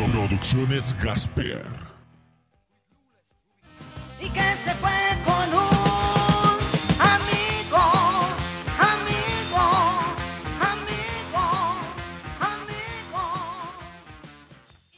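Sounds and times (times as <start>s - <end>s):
rock and roll music: 0.0s - 14.9s.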